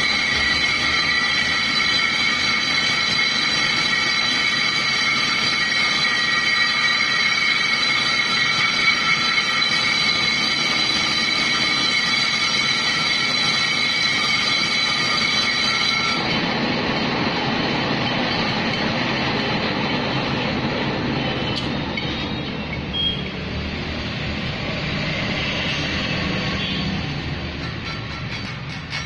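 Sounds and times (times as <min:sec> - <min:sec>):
metal lathe cutting brake drum: 0:00.0 - 0:29.0.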